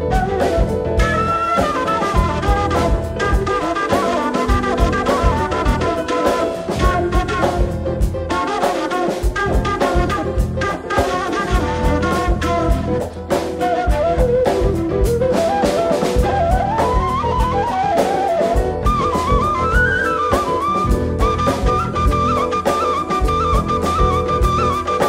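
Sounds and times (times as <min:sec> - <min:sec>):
big band playing jazz: 0:00.0 - 0:25.0
drum kit beat: 0:00.0 - 0:25.0
wooden flute melody: 0:00.0 - 0:25.0.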